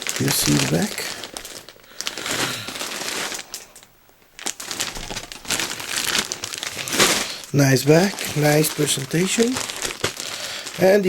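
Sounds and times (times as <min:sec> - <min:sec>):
fabric rustling and crinkling: 0:00.0 - 0:11.0.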